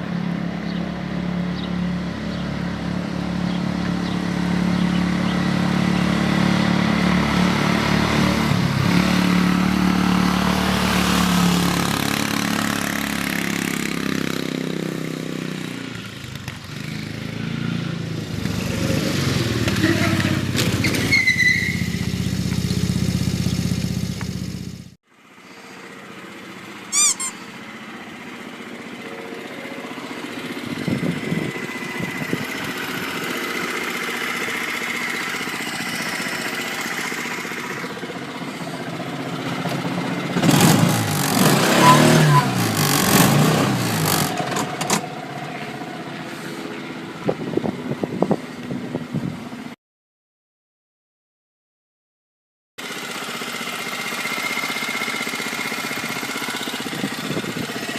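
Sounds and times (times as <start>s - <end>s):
quieter engine revving: 0.0s - 47.4s
small petrol engine running: 0.0s - 48.1s, 52.8s - 57.9s.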